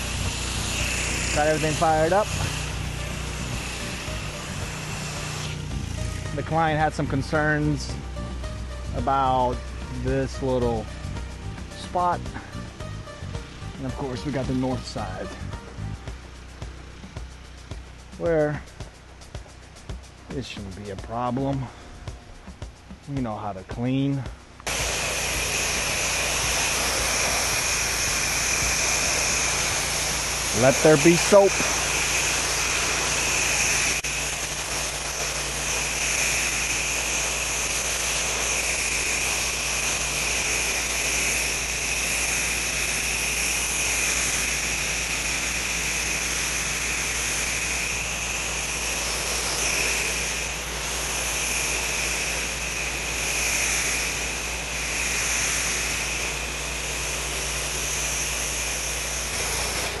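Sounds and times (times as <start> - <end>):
spray wand hissing: 0.0 - 23.3, 24.4 - 60.0
engine humming: 0.0 - 60.0.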